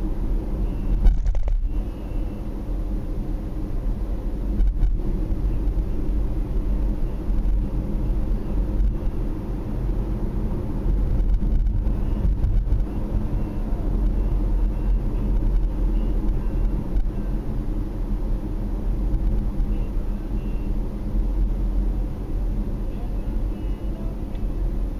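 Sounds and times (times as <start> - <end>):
car driving cabin rumble: 0.0 - 24.9.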